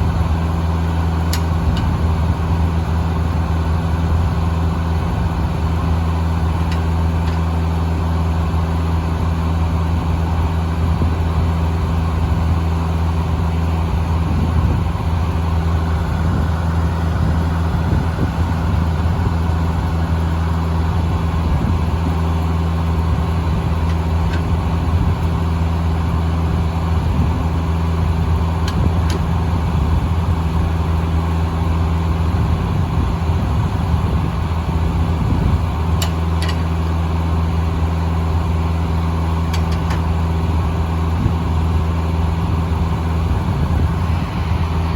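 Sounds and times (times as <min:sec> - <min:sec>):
sawmill engine humming: 0:00.0 - 0:44.9.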